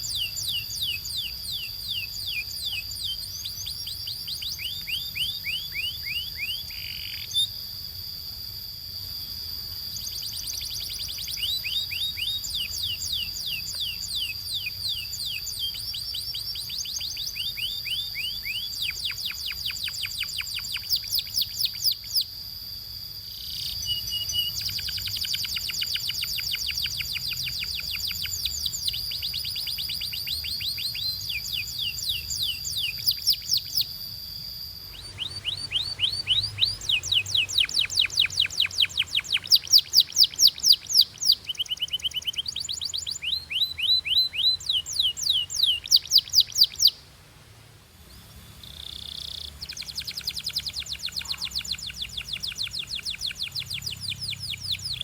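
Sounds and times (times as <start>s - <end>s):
canary singing trills: 0.0s - 47.0s, 48.1s - 55.0s
steady high whistle: 0.0s - 47.0s.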